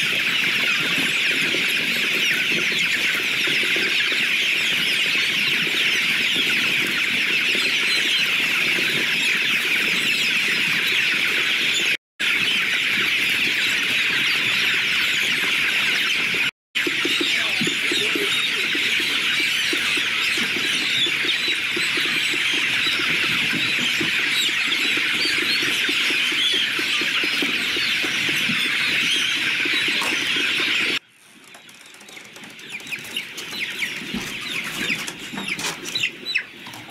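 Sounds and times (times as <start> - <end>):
chicks peeping: 0.0 - 36.9.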